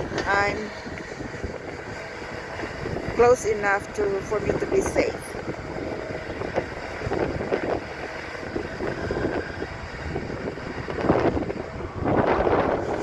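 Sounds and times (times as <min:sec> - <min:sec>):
excavator engine rumbling: 0:00.0 - 0:13.0
wind buffeting microphone: 0:00.0 - 0:13.0.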